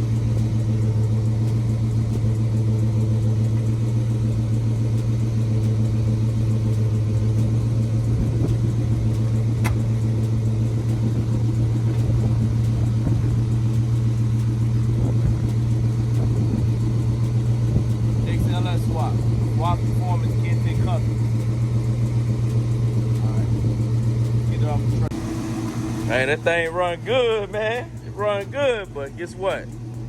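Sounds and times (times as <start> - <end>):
car engine running: 0.0 - 30.0
engine tick: 0.0 - 30.0.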